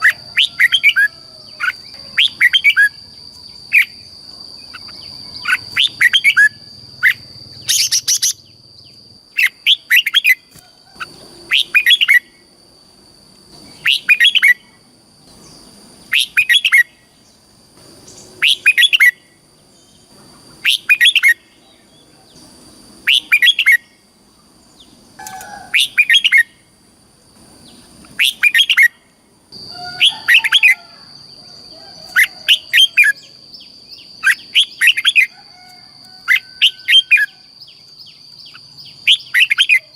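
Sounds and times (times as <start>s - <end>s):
steady high-pitched whine: 0.0s - 39.9s.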